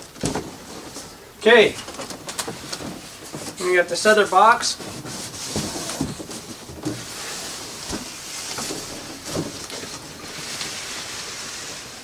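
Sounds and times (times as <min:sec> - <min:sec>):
cardboard box rustling: 0:00.2 - 0:12.0.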